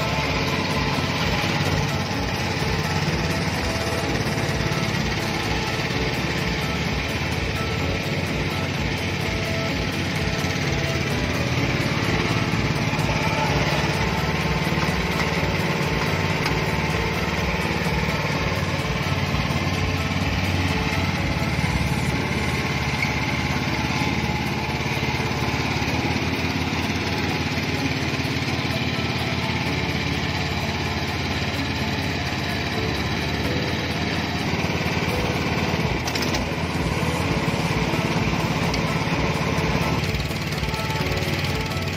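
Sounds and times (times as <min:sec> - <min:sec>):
riding mower engine running: 0:00.0 - 0:41.9.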